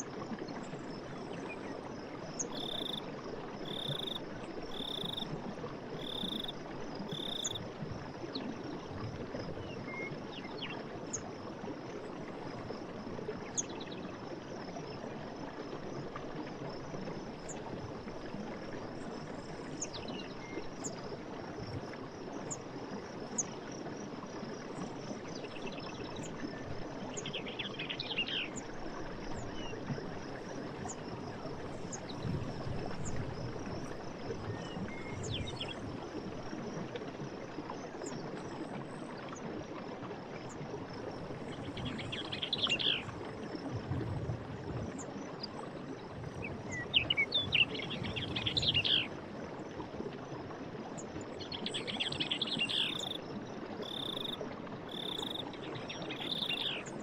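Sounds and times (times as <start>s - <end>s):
crickets and insects chorus: 0.0s - 38.7s, 40.4s - 50.4s, 51.0s - 57.0s.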